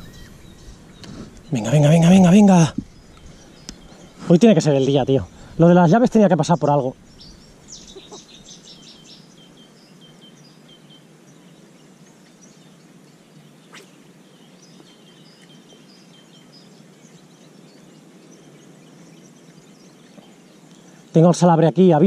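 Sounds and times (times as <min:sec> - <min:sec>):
faint steady hiss: 0:00.0 - 0:22.0
small birds chirping: 0:00.0 - 0:22.0.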